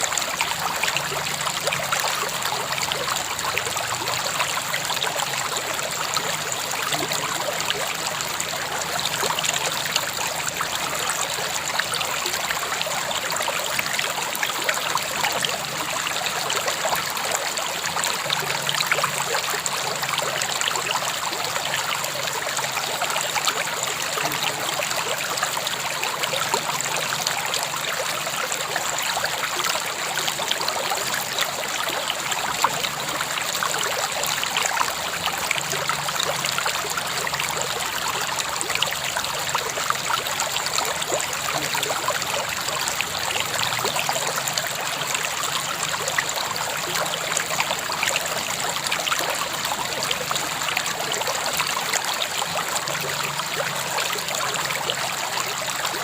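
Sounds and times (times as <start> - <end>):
river water flowing over stones: 0.0 - 56.0.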